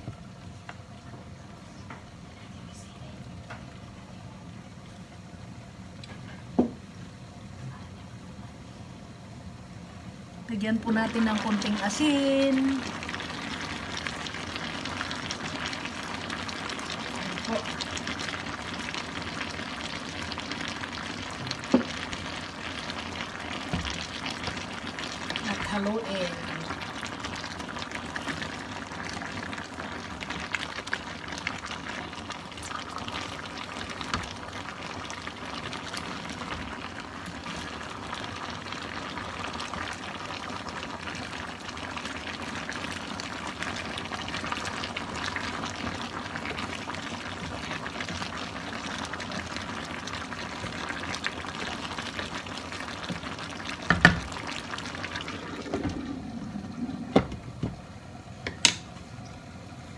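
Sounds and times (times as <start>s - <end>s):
sauce bubbling in a wok: 3.2s - 59.9s.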